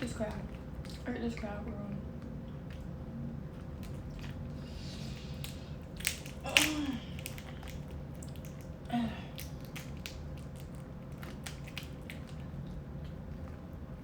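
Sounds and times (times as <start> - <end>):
steady low hum: 0.0 - 14.0
wet chewing and squishing: 0.0 - 14.0.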